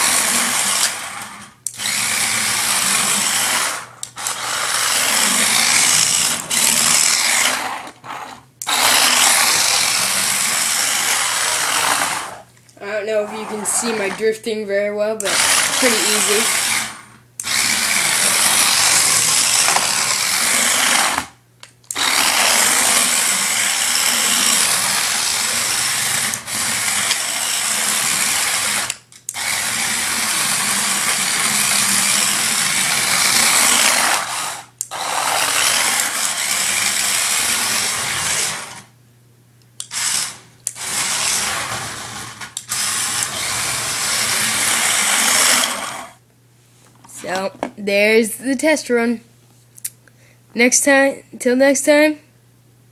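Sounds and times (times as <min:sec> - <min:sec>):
toy car electric motor whirring: 0:00.0 - 0:14.4, 0:15.2 - 0:38.9, 0:39.8 - 0:46.2.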